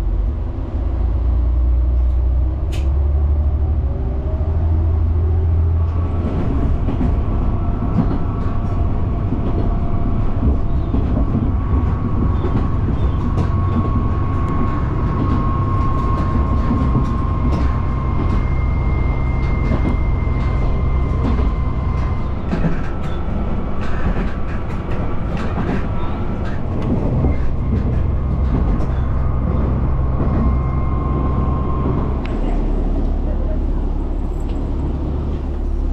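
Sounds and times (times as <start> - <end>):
diesel railcar drone: 0.0 - 35.9.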